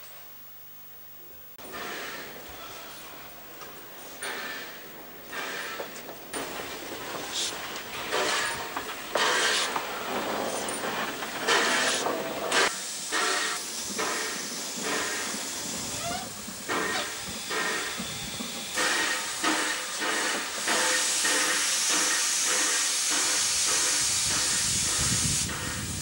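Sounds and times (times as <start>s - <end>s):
steam hissing: 1.6s - 26.0s
steam locomotive chuffing: 1.6s - 26.0s.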